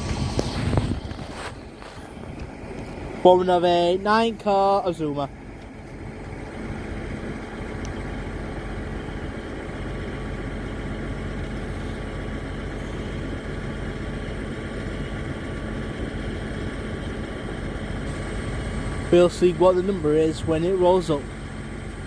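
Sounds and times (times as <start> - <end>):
train hum and rumble: 0.0 - 22.0.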